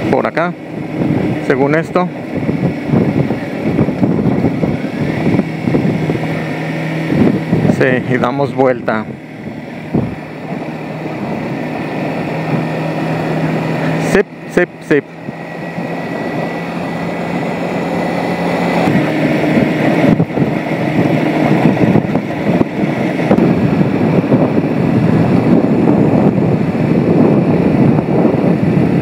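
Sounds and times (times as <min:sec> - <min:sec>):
motorcycle engine running: 0:00.0 - 0:29.0
wind noise on microphone: 0:00.0 - 0:29.0.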